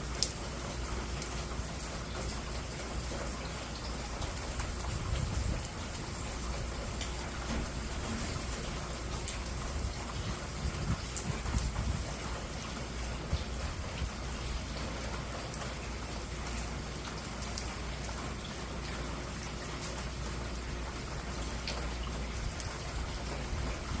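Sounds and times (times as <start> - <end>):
raindrops ticking: 0.0 - 24.0
steady rain falling: 0.0 - 24.0.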